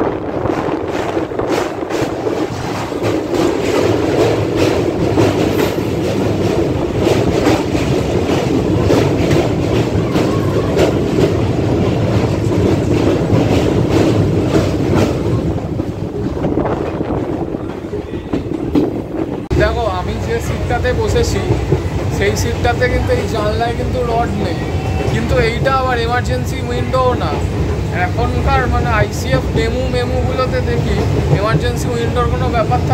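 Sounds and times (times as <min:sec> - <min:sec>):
train rumble on bridge: 0:00.0 - 0:32.9.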